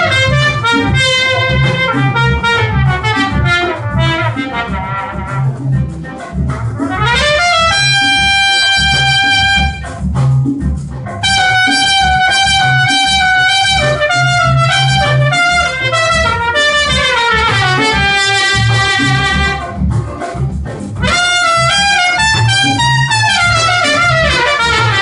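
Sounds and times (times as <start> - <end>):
jazz trumpet solo: 0.0 - 10.5, 11.2 - 25.0
bass and drums: 0.0 - 25.0.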